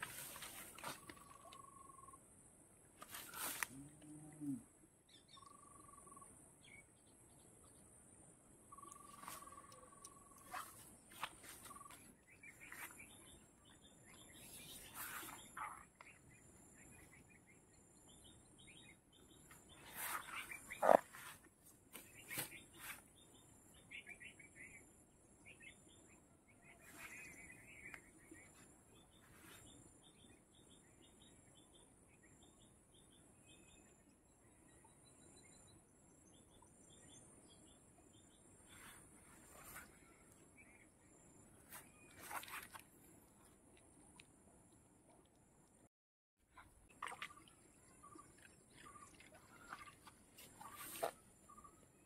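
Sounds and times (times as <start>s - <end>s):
faint birdsong chirps: 0.0s - 2.3s, 3.0s - 45.7s, 46.5s - 52.0s.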